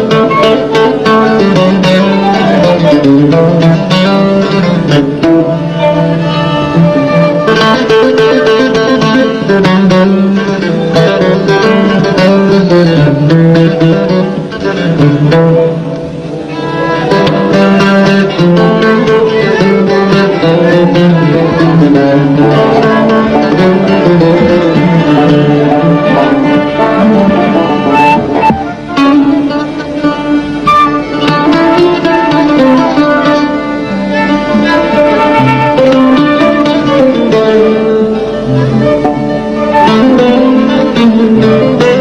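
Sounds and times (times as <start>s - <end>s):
plucked string instruments: 0.0s - 42.0s
violin: 0.0s - 42.0s.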